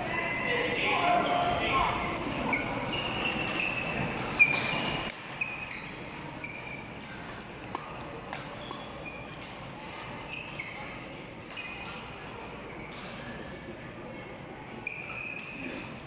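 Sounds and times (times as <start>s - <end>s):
background chatter: 0.0s - 16.0s
shoes squeaking on hall floor: 1.0s - 13.4s, 14.7s - 16.0s.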